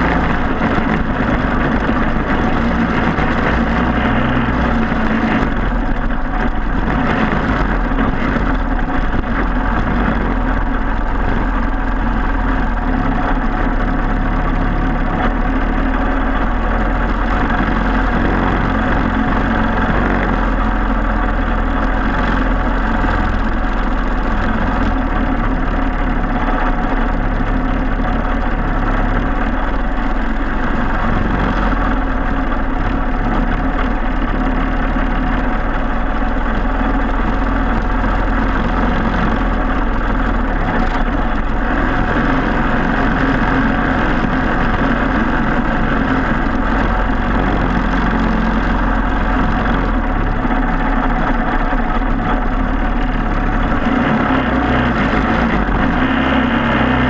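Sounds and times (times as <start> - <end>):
kart engine running: 0.0 - 57.0.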